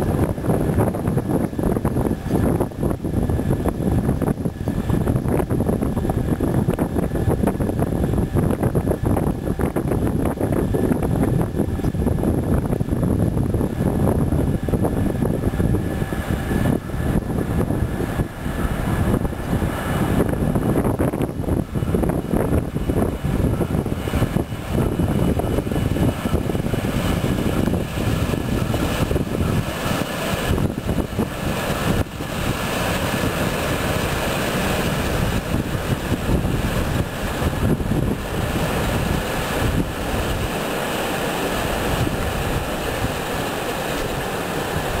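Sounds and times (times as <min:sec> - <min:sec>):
barge diesel engine running: 0:00.0 - 0:45.0
propeller wash churning water: 0:00.0 - 0:45.0.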